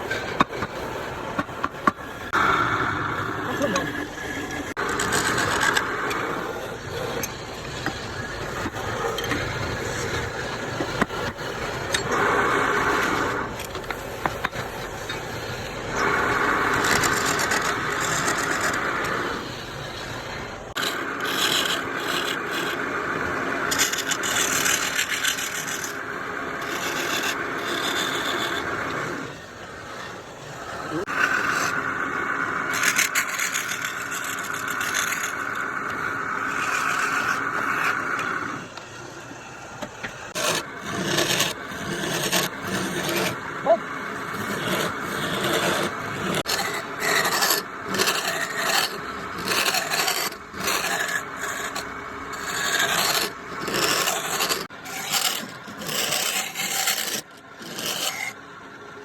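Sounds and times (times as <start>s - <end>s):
lathe tool scraping wood: 0.0s - 58.4s.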